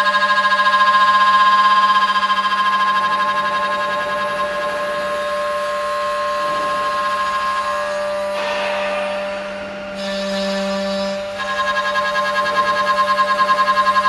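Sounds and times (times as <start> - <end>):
spindle motor high whine: 0.0 - 14.0.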